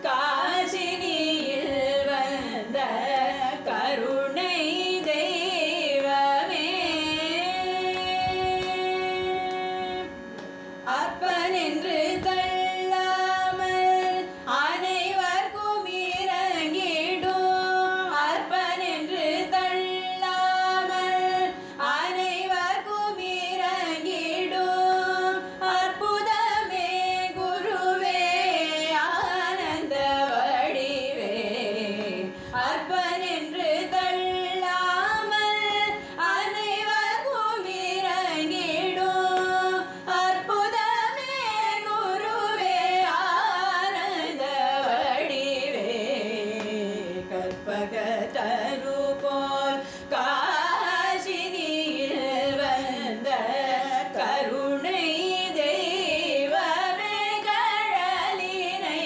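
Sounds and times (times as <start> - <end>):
person singing devotional song: 0.0 - 59.0.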